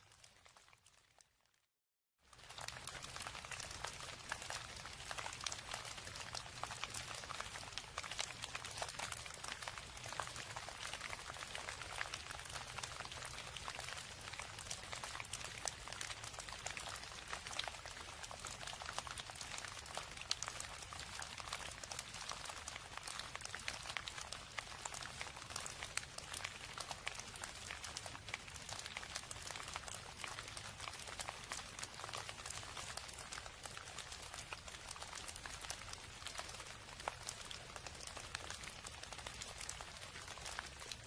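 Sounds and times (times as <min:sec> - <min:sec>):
steady rain patter: 0:02.2 - 0:41.0.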